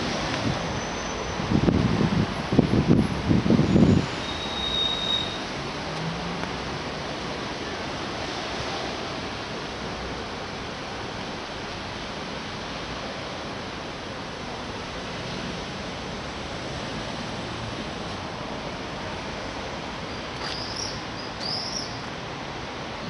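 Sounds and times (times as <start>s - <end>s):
street ambience hiss: 0.0s - 23.0s.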